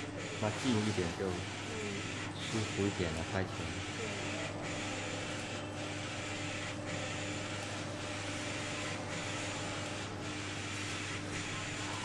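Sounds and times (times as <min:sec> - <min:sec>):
printer carriage whirring hum: 0:00.0 - 0:12.0.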